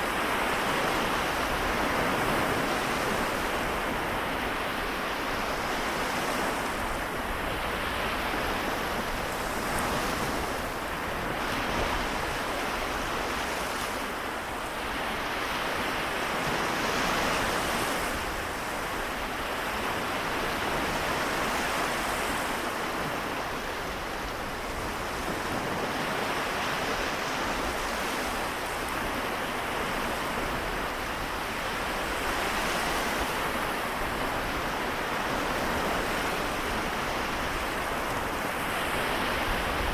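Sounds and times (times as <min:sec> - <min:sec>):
small waves washing ashore: 0:00.0 - 0:39.9.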